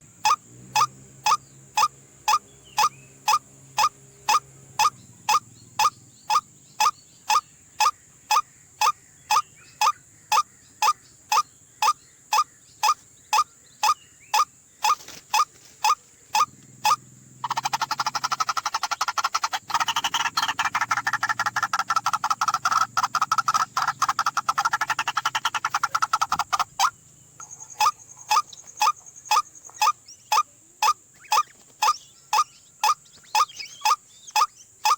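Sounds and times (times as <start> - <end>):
bird calling sharp notes: 0.0 - 34.9
dense bird calling: 0.0 - 34.9.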